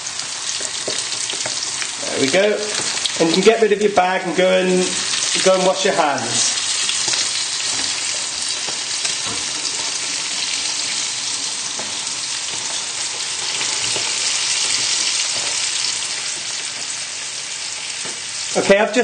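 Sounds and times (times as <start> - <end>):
hot oil sizzling: 0.0 - 19.0.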